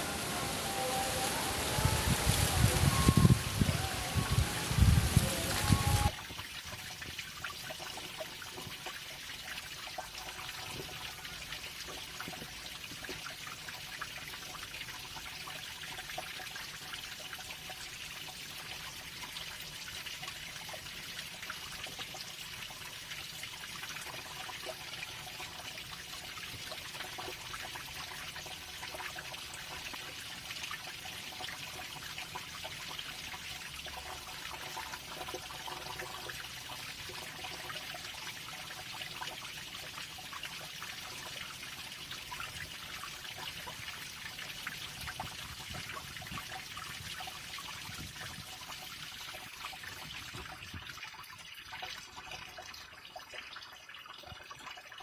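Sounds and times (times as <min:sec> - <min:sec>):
trickle of running water: 0:00.0 - 0:55.0.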